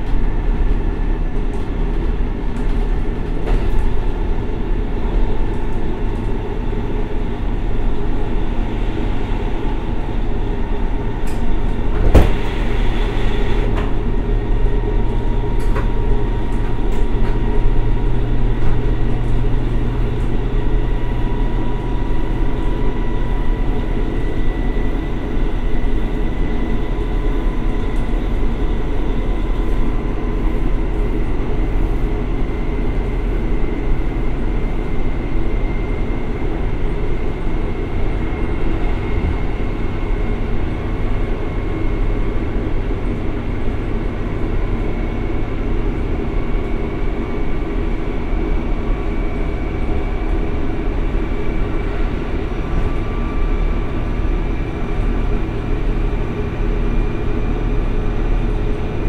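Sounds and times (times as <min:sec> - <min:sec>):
diesel engine working: 0:00.0 - 0:59.0
rail running noise: 0:00.0 - 0:59.0.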